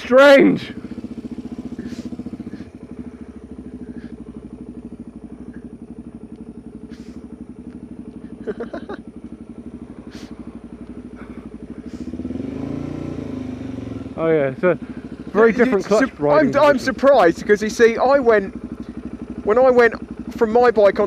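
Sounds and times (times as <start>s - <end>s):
motorcycle engine running at low revs: 0.0s - 21.0s.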